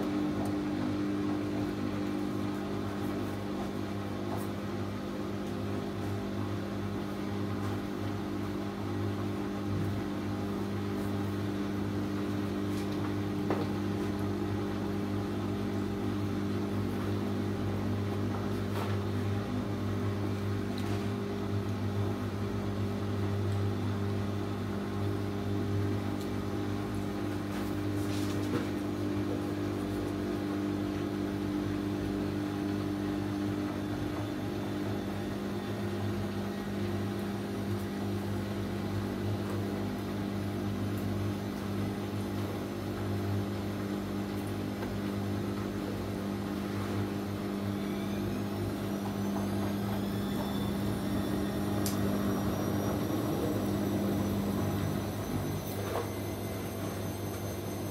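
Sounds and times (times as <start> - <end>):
washing machine motor hum: 0.0 - 57.9.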